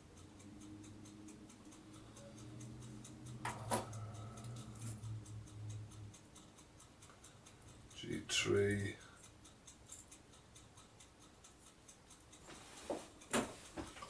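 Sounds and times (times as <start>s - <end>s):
faint ticking: 0.0s - 14.0s.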